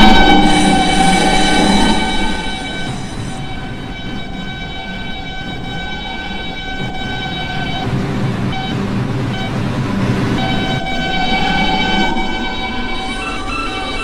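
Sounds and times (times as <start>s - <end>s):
subway propulsion whine: 0.0s - 14.0s
train wheels rumbling: 0.0s - 14.0s.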